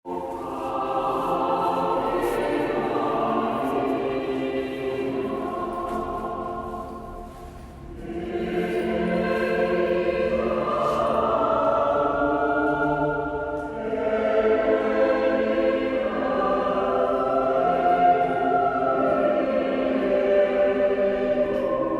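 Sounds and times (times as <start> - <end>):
choir singing liturgical chant: 0.1 - 21.9.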